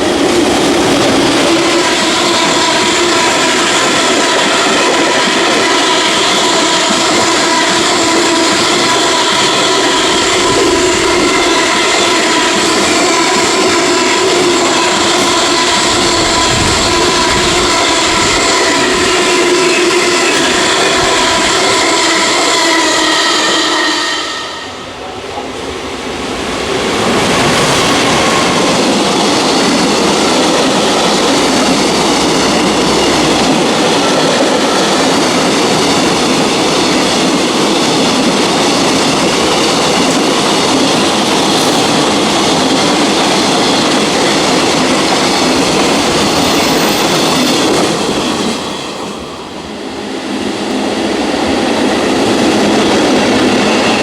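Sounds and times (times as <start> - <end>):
train whine: 0.0 - 54.0.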